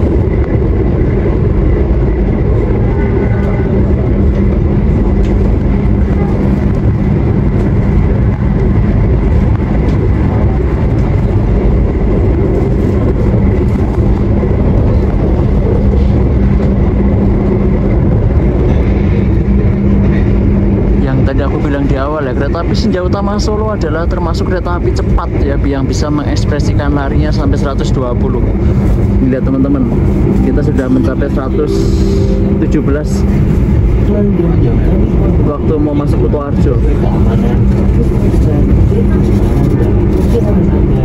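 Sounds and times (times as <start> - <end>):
constant hum: 0.0 - 41.0
train wheels rumbling on rail: 0.0 - 41.0.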